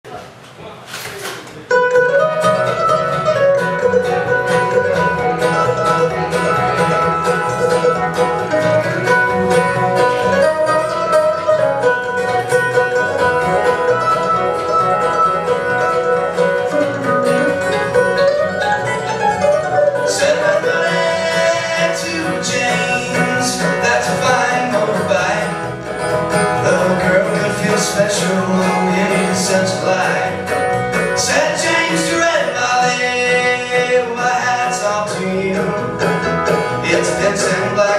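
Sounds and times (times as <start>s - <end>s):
acoustic guitar: 0.1s - 37.9s
mandolin: 0.9s - 37.9s
upright bass: 1.7s - 37.9s
fiddle: 2.0s - 37.9s.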